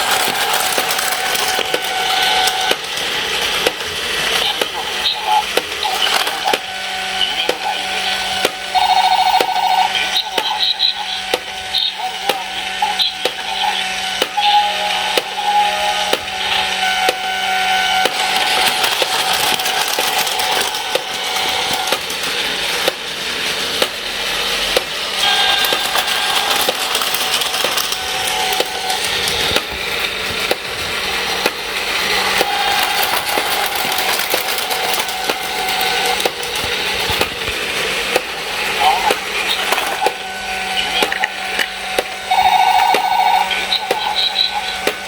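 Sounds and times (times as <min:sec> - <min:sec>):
toy train clattering on plastic track: 0:00.0 - 0:14.4, 0:16.0 - 0:45.0.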